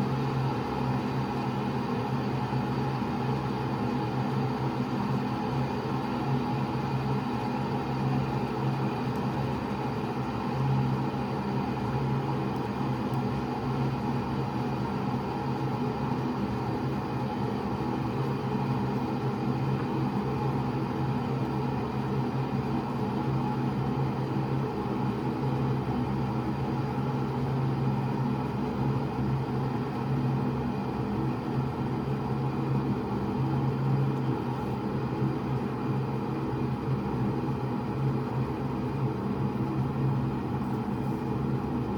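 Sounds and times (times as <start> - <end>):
electric kettle heating water: 0.0 - 41.9.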